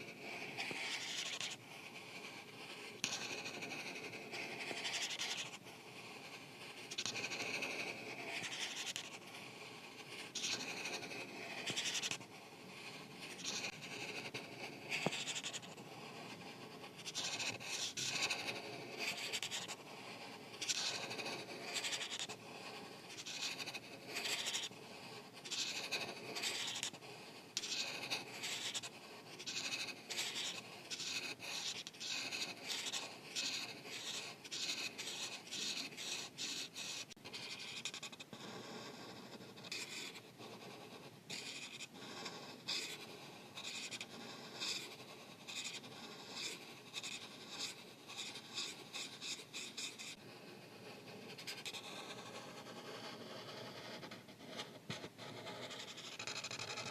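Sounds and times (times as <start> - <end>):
marker scratching on paper: 0.0 - 56.9.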